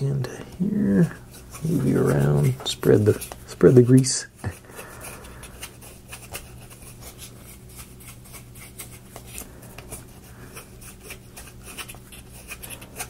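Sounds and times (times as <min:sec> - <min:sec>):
wood rubbing on wood: 0:00.0 - 0:13.0.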